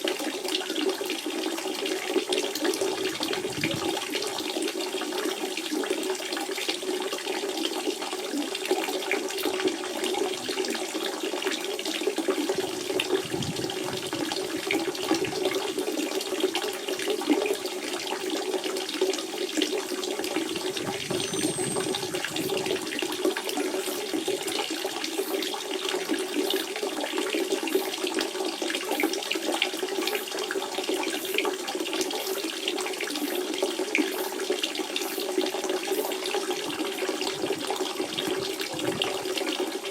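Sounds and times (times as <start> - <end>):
spring water gurgling: 0.0 - 39.9.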